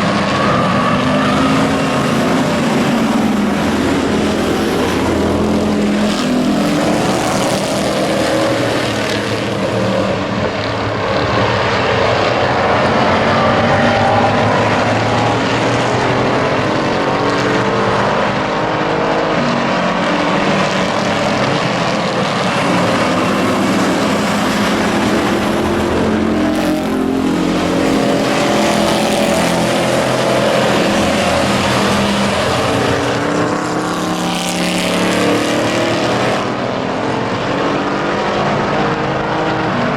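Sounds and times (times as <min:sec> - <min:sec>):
race truck engines passing: 0:00.0 - 0:39.9.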